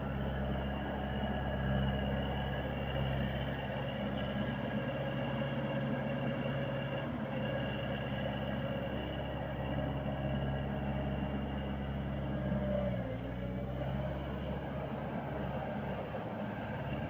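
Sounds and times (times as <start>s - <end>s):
loader engine running steadily: 0.0s - 17.0s.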